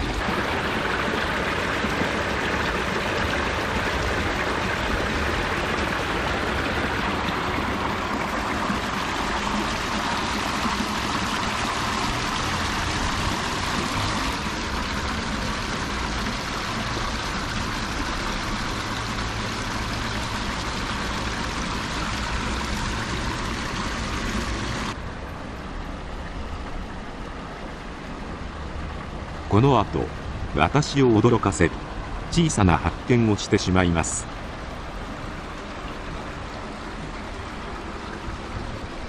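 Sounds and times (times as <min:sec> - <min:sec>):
road traffic rumble: 0:00.0 - 0:39.0
water splashing into a channel: 0:00.0 - 0:39.0.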